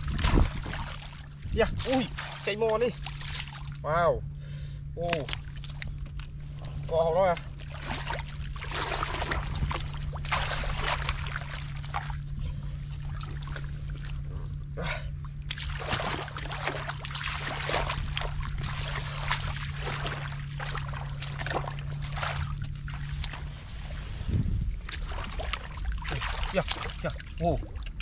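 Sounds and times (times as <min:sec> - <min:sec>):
hands sloshing in muddy water: 0:00.0 - 0:03.8, 0:05.1 - 0:28.0
steady low hum: 0:00.0 - 0:28.0.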